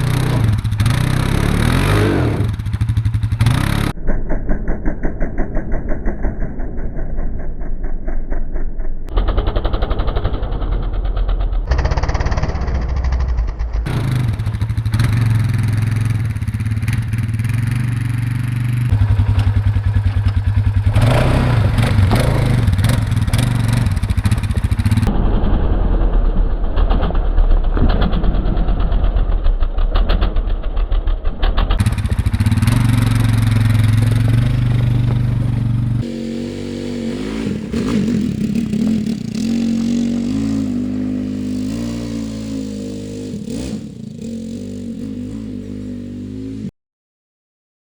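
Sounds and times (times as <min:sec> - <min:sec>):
atv engine running and revving: 0:00.0 - 0:04.0, 0:09.1 - 0:25.2, 0:27.8 - 0:46.7.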